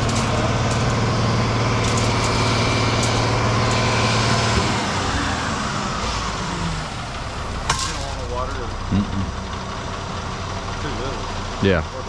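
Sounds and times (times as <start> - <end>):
mixer truck diesel engine revving: 0.0 - 12.0.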